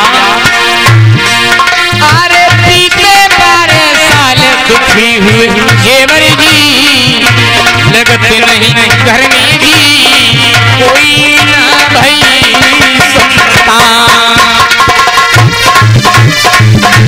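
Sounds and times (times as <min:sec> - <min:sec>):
fast hand-drum rhythm: 0:00.0 - 0:17.0
wavering electronic keyboard melody: 0:00.0 - 0:17.0.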